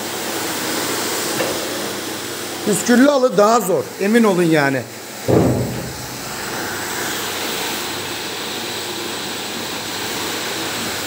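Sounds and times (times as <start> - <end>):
carpet-washing machine whirring: 0.0 - 11.0.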